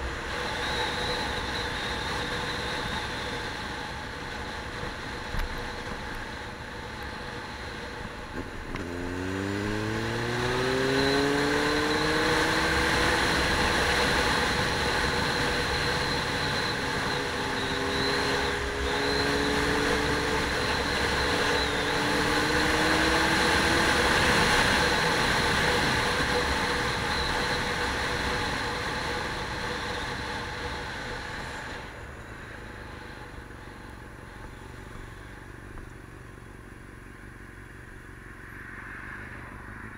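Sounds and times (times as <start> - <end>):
road and wind noise: 0.0 - 39.9
vehicle engine accelerating: 0.0 - 39.9.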